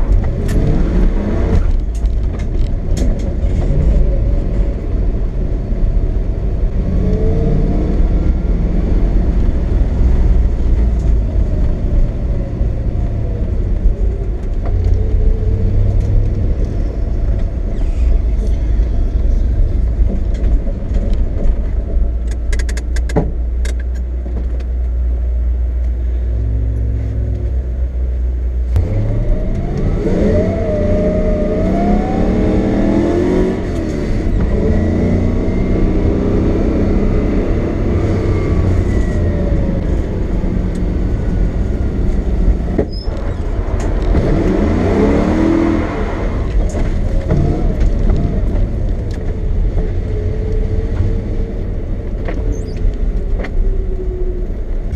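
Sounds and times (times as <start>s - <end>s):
car engine revving: 0.0s - 20.5s, 28.7s - 54.9s.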